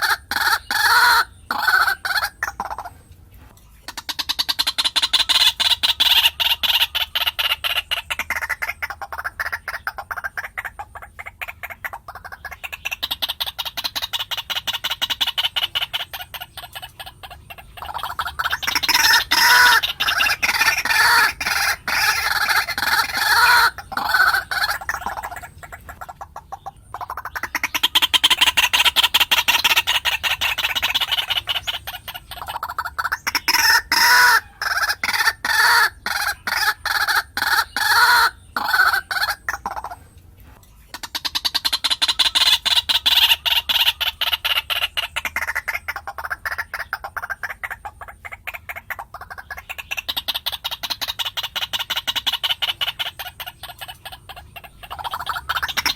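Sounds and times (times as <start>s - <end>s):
waterhen calling harsh notes: 0.0s - 55.9s.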